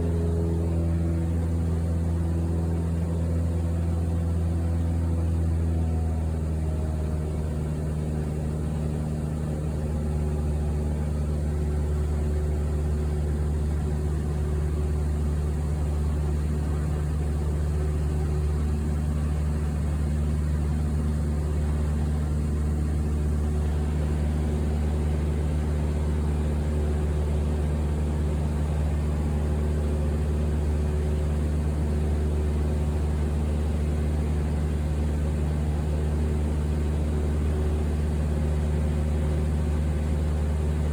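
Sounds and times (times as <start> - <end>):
airliner engine drone: 0.0 - 40.9.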